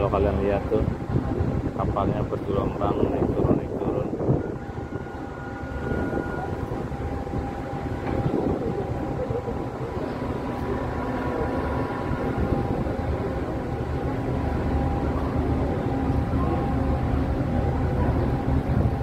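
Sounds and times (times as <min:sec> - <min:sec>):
ferry engines low rumble: 0:00.0 - 0:19.0
faint steady tones: 0:02.1 - 0:19.0.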